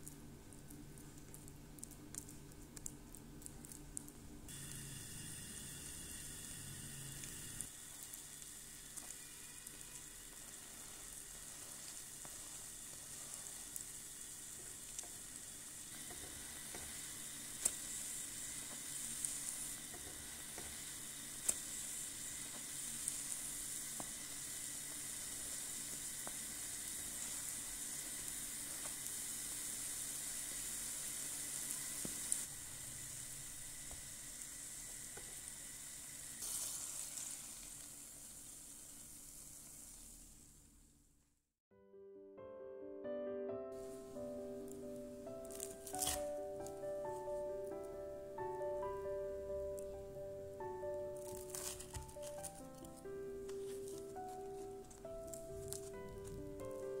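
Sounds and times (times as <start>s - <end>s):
pancakes sizzling in oil: 0.0s - 41.1s, 43.8s - 49.1s, 49.8s - 57.0s.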